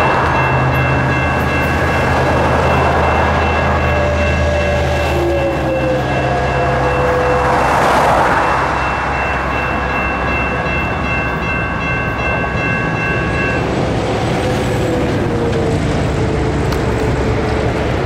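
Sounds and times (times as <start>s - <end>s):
railroad crossing bell ringing: 0.0s - 15.5s
road traffic noise: 0.0s - 18.0s.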